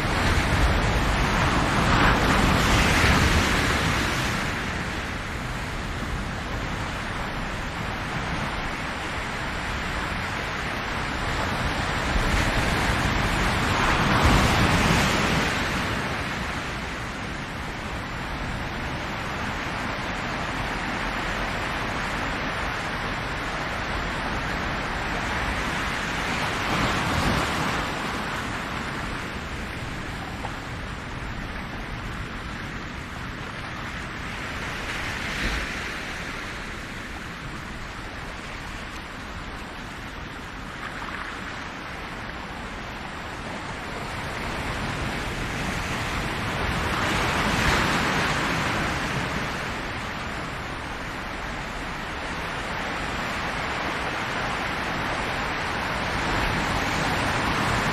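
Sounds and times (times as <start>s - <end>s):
ocean waves breaking on shore: 0.0s - 57.9s.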